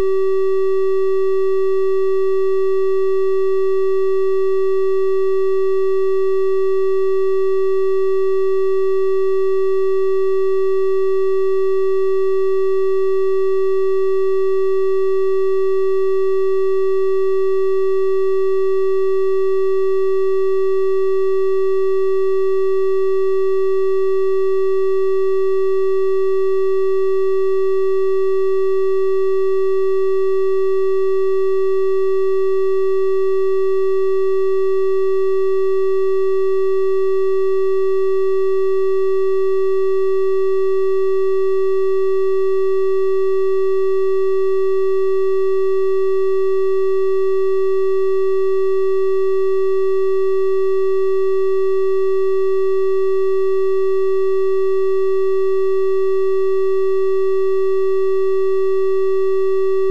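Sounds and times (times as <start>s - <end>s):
electronic triangle-wave tone: 0.0s - 59.9s.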